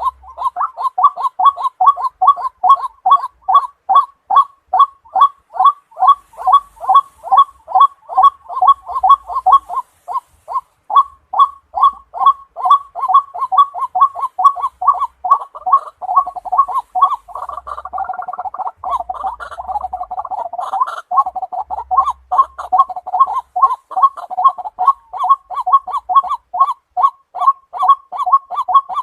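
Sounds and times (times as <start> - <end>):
waterhen calling: 0.0 - 29.0.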